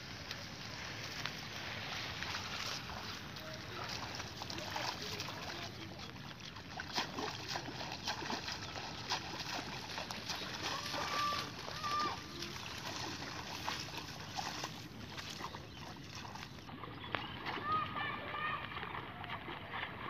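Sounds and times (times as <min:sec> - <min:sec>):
feet wading through water: 0:00.0 - 0:20.0
shallow water splashing: 0:00.0 - 0:20.0.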